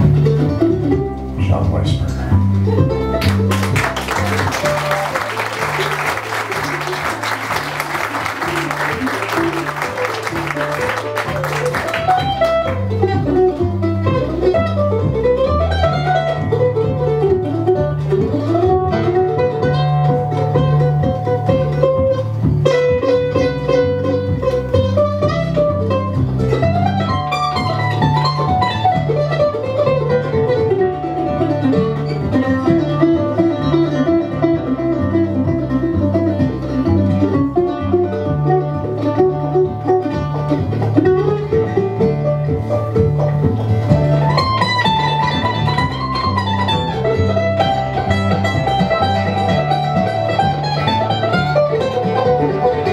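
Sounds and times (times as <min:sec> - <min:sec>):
bluegrass band playing: 0:00.0 - 0:52.9.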